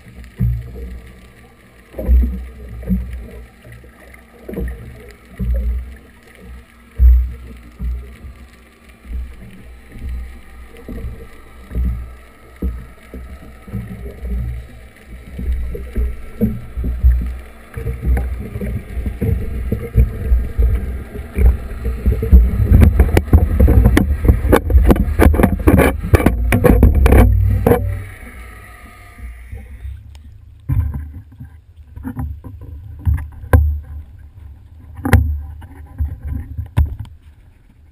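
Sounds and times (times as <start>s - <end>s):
crackle of bubbles: 0.0s - 37.9s
propellers churning underwater: 0.0s - 37.9s.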